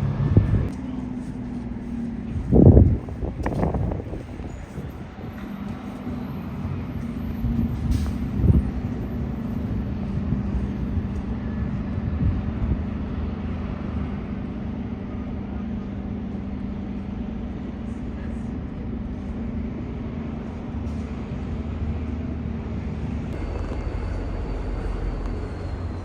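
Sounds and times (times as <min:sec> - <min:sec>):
transit vehicle humming: 0:00.0 - 0:26.0.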